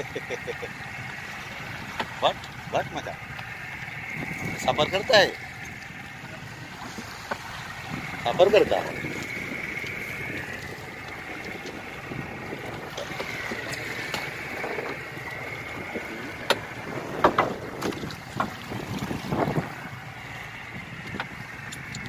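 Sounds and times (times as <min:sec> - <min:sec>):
wind and sea water: 0:00.0 - 0:22.0.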